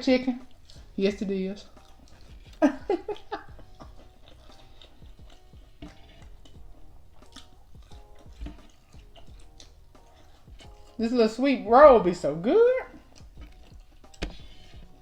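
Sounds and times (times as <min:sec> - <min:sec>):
faint background music: 0:00.0 - 0:15.0
person chewing and crunching food: 0:00.4 - 0:11.1, 0:12.8 - 0:15.0.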